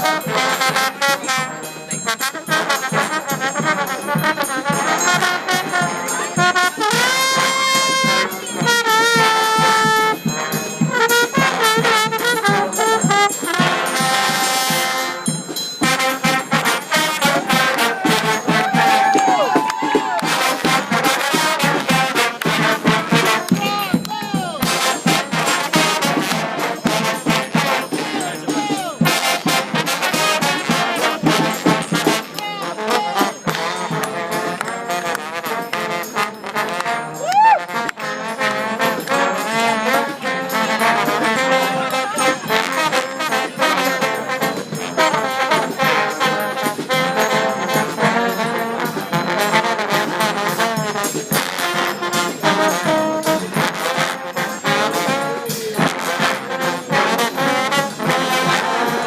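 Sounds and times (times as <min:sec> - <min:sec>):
trombones playing in harmony: 0:00.0 - 0:59.0.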